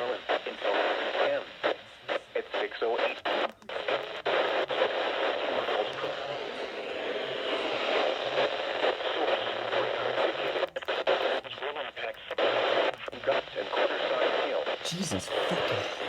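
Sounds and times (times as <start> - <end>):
faint garbled radio voice: 0.0 - 6.8, 9.3 - 16.0
radio static hiss: 0.0 - 16.0.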